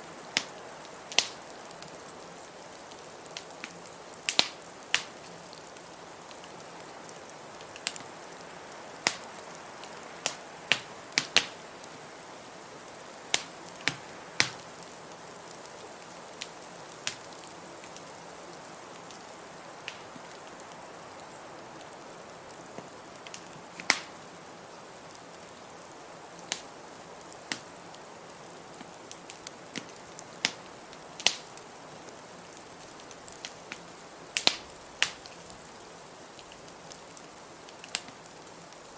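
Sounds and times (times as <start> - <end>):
steady background hiss: 0.0 - 38.9
wood fire crackling: 0.0 - 38.9.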